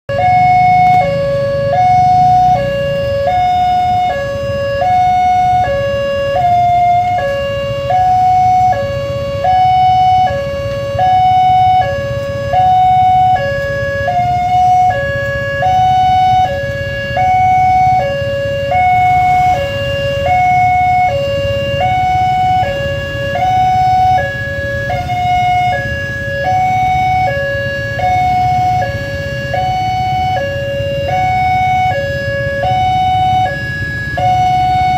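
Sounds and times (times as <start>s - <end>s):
motorcycle engines idling: 0.1s - 34.9s
two-tone crossing alarm chime: 0.1s - 34.9s.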